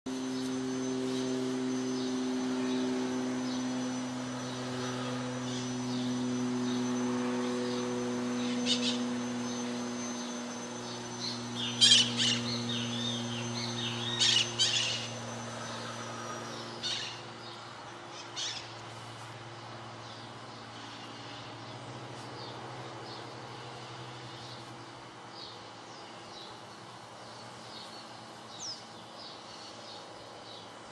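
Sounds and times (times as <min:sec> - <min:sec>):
birds chirping: 0:00.1 - 0:30.9
high steady whine: 0:00.1 - 0:30.9
steady low hum: 0:00.1 - 0:30.9.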